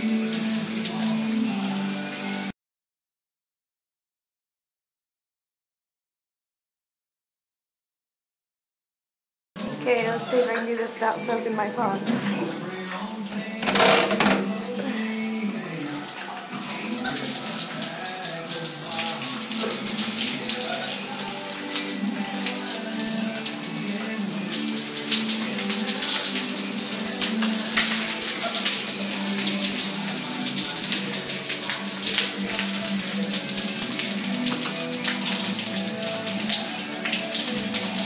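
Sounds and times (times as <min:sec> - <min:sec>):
shower water pattering: 0:00.0 - 0:02.5, 0:09.6 - 0:38.0.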